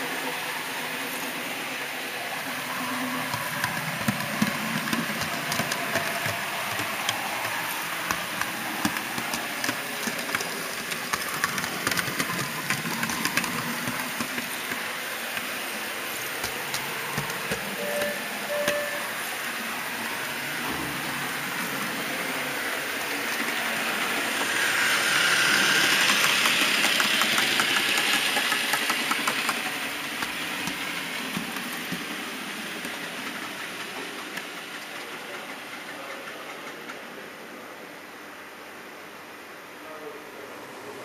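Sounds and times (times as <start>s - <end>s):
model train running on track: 0.0s - 41.0s
wheels clicking over rails: 2.7s - 37.6s.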